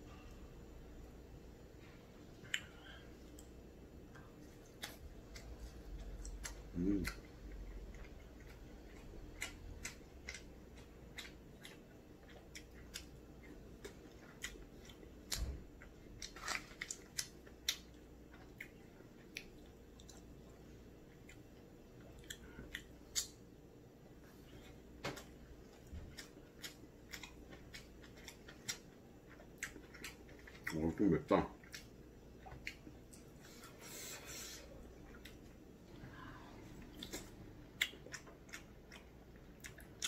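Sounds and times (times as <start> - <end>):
person chewing: 2.3 - 36.0, 36.7 - 40.0.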